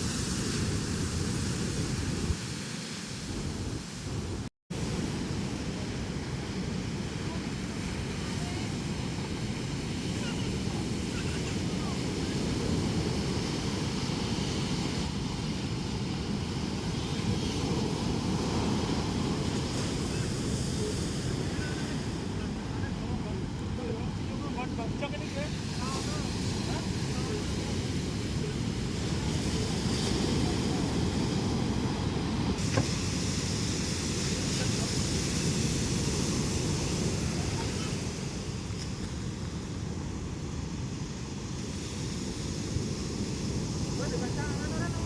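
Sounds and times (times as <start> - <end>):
ocean surf breaking: 0.0 - 45.0.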